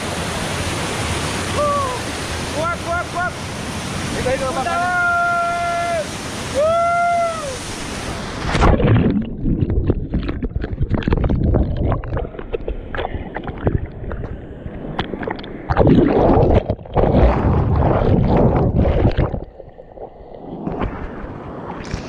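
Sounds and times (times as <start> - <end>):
muffled churning water: 0.0 - 22.0.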